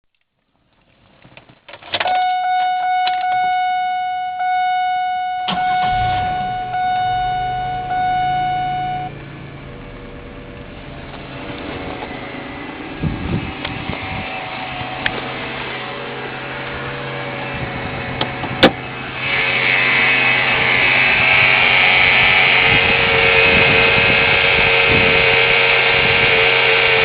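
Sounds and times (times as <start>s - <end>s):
high-pitched engine whine: 4.2s - 27.0s
car engine idling: 5.2s - 27.0s.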